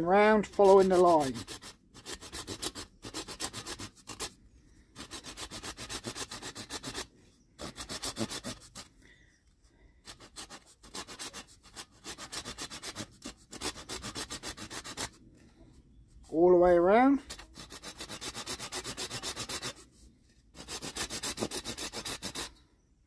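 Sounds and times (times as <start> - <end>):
hand saw cutting wood: 0.3 - 9.0, 10.0 - 15.2, 17.2 - 22.6.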